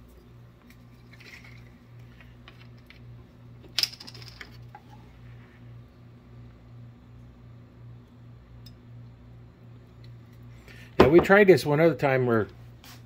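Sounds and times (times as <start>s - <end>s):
faint pulsing low hum: 0.0s - 12.8s.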